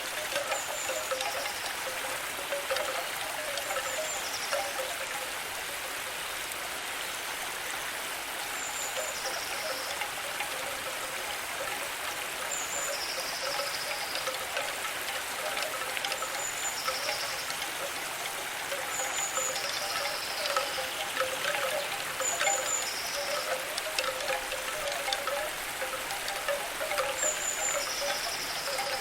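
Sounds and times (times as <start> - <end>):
running water: 0.0 - 29.0.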